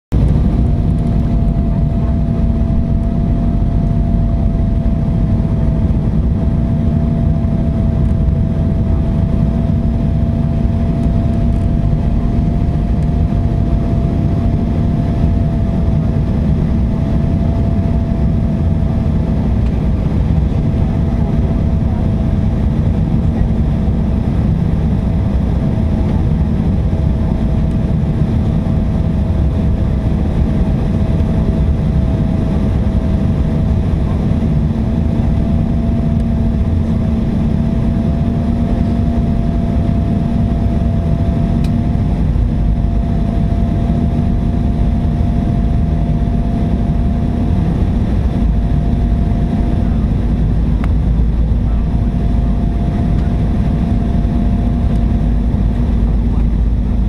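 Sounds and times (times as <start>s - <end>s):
jet engine rumble and airflow: 0.0s - 57.0s
thin steady whine: 0.1s - 57.0s.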